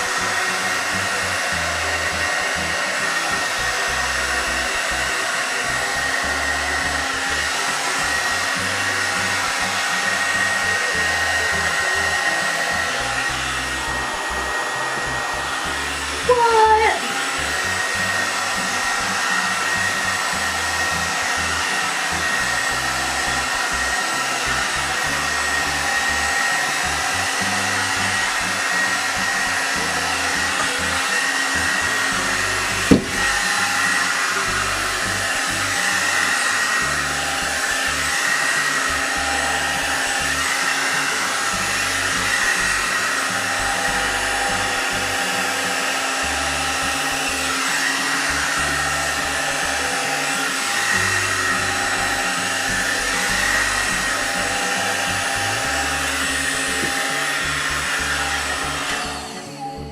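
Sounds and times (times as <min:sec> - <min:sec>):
hair dryer brush blowing air: 0:00.0 - 0:59.8.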